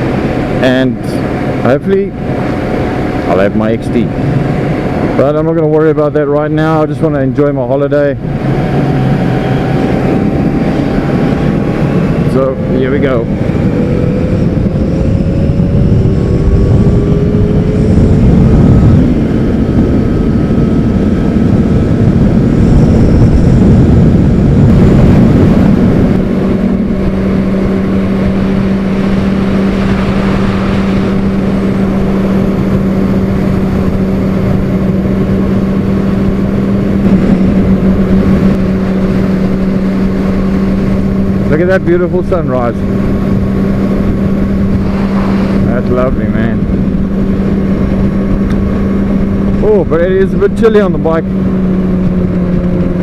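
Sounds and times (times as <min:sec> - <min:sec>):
motorcycle engine accelerating: 0:00.0 - 0:53.0
wind rush: 0:00.0 - 0:53.0.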